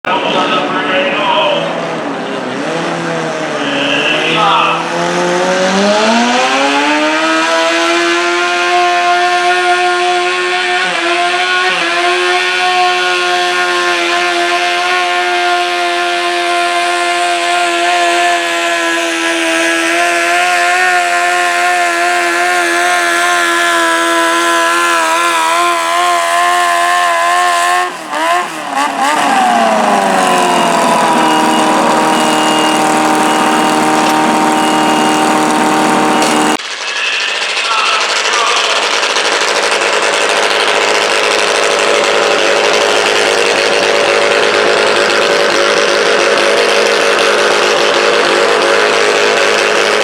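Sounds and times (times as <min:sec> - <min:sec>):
garden tractor engine revving: 0:02.4 - 0:50.0.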